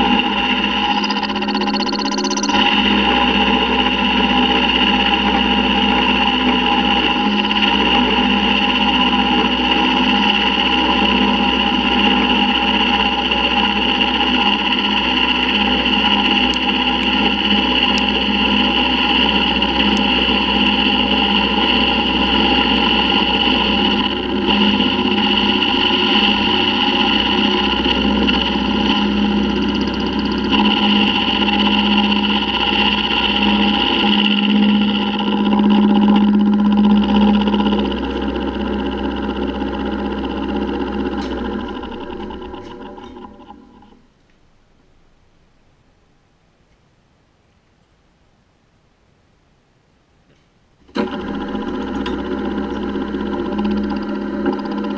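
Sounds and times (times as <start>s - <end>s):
milling machine cutting steel: 0.0s - 44.0s, 50.9s - 54.9s.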